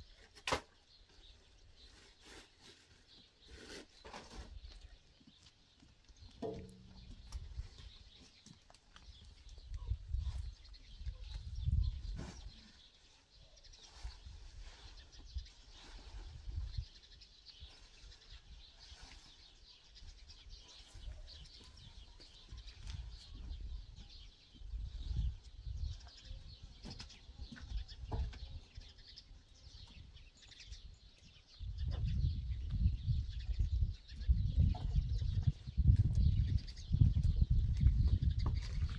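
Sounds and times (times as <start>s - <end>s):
birds chirping: 0.1s - 38.9s.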